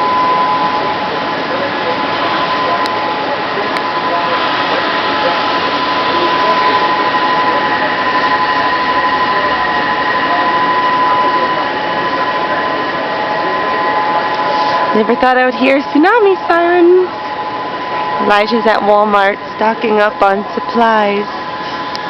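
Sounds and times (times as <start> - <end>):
warning sirens steady tone: 0.0 - 22.0.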